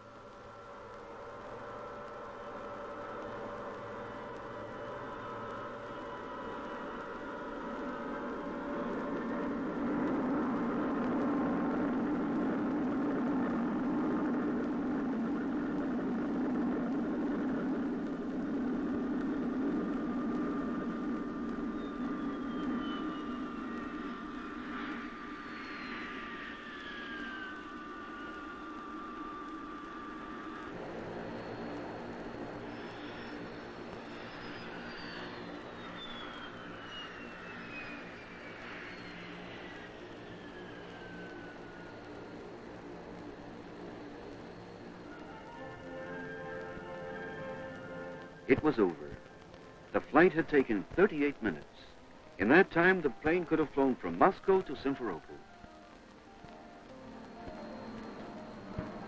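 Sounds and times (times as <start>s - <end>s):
jet engines droning: 0.0s - 59.0s
thin engine whine: 0.0s - 59.0s.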